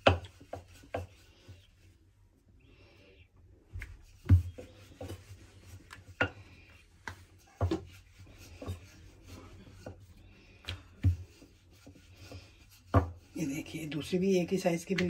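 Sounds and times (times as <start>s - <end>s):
rolling pin rolling dough: 0.0s - 2.1s, 3.8s - 15.0s.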